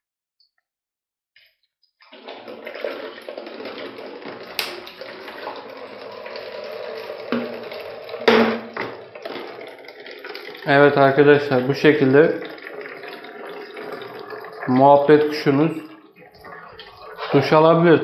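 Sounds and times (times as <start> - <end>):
water pouring into plastic bottle: 2.0 - 18.0.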